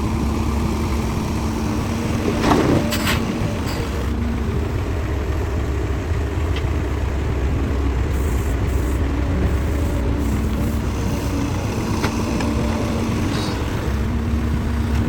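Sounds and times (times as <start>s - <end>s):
diesel engine low rumble: 0.0s - 15.0s.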